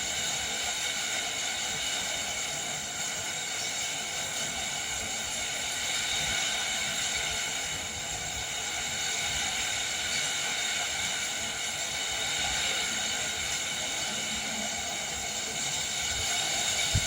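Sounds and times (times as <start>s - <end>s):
heavy wind-driven rain: 0.0s - 17.0s.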